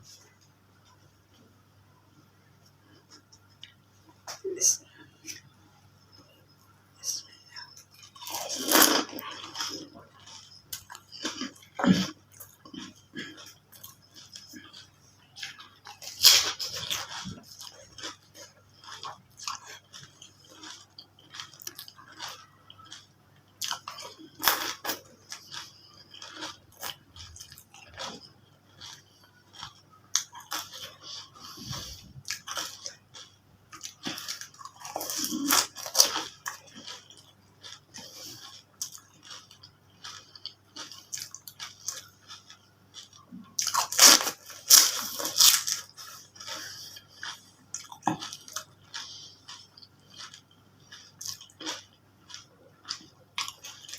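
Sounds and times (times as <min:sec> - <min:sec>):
wet chewing and squishing: 0:07.6 - 0:53.9.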